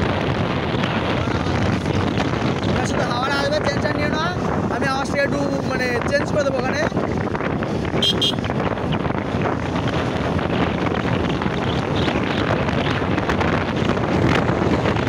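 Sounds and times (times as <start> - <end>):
engine and road noise: 0.0 - 15.0
wind buffeting microphone: 0.0 - 15.0.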